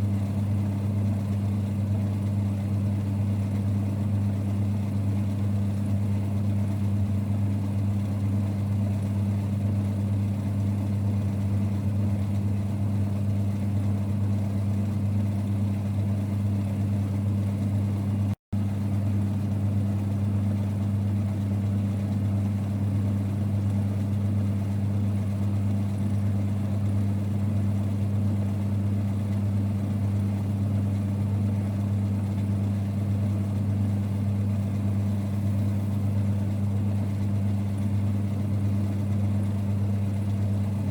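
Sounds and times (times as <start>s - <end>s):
lathe running with hum: 0.0s - 40.9s.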